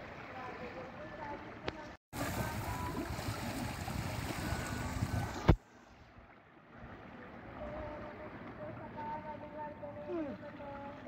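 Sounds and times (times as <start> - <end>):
sea water: 0.0 - 11.0
wind: 0.0 - 11.0.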